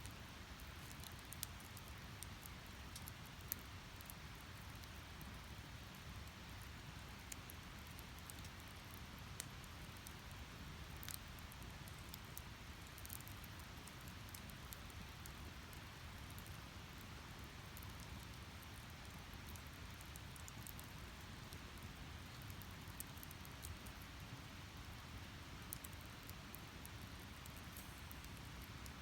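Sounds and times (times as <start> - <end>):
wood fire crackling and popping: 0.5 - 24.6, 25.2 - 29.0.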